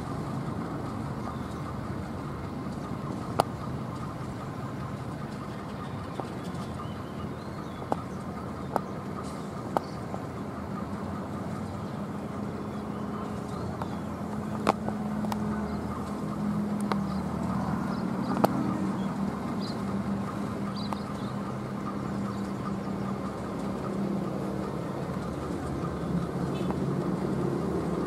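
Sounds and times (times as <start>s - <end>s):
engine running: 0.0s - 28.0s.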